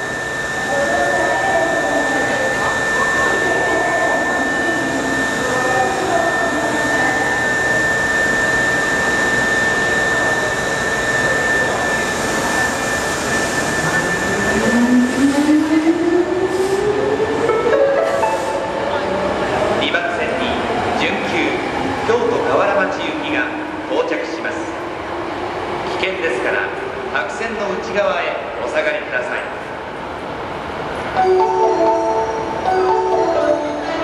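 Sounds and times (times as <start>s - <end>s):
subway rumble and hiss: 0.0s - 34.0s.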